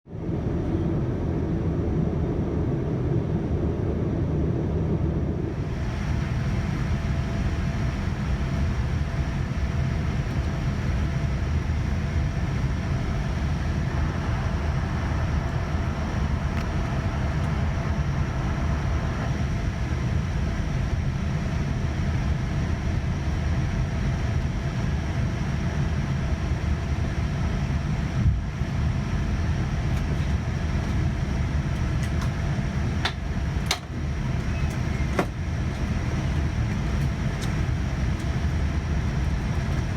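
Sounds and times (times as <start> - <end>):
airliner cabin rumble: 0.1 - 39.9.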